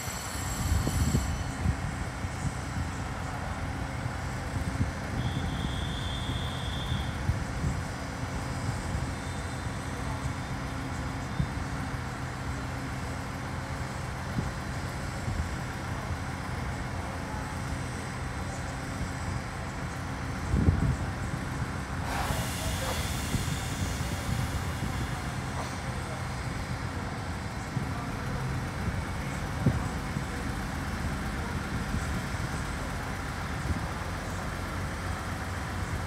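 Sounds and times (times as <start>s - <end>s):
diesel train engines idling: 0.0s - 36.0s.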